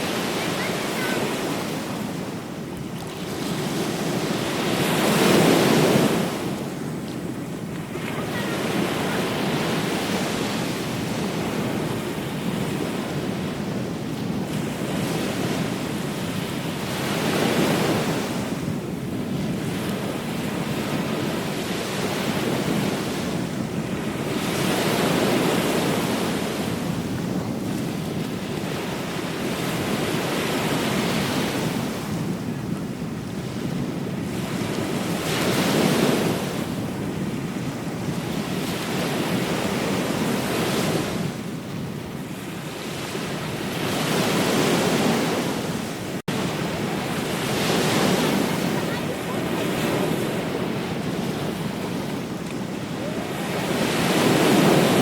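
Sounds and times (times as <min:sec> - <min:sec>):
waves breaking on shore: 0:00.0 - 0:55.0
wind rumbling on microphone: 0:00.0 - 0:55.0.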